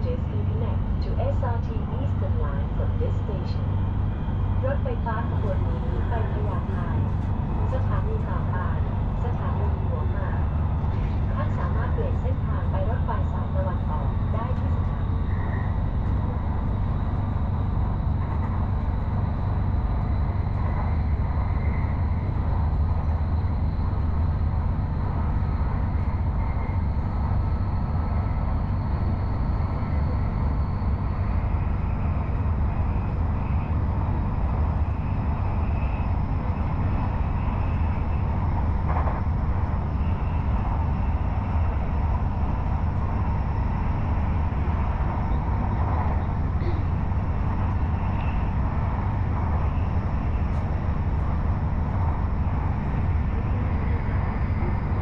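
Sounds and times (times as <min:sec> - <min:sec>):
train wheel and track rumble: 0:00.0 - 0:55.0
thin high whine: 0:02.1 - 0:55.0.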